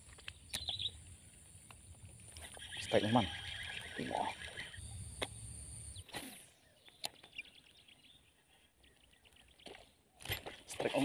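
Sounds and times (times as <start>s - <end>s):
chirps: 0.2s - 11.0s.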